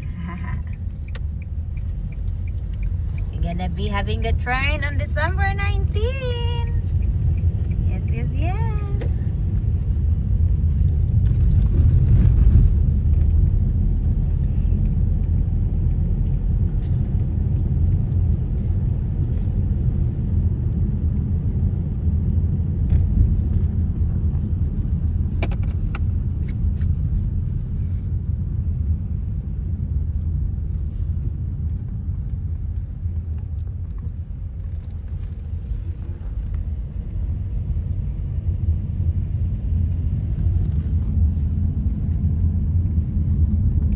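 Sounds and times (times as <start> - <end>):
car engine and tyre road noise: 0.0 - 43.9.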